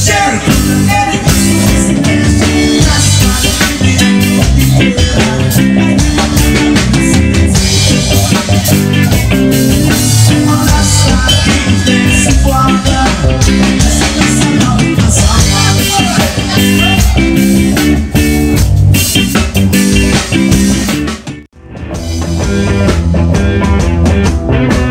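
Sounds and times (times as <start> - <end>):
live rock band playing: 0.0 - 24.9.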